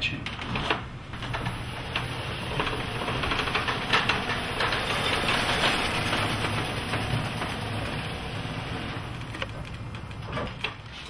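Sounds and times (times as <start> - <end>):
garage door creaking and rattling: 0.1 - 11.0.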